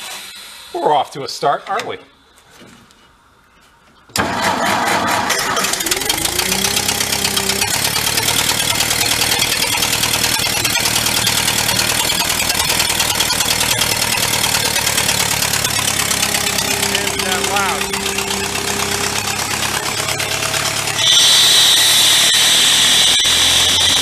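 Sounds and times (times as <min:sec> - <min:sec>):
air compressor engine running: 0:04.2 - 0:24.0.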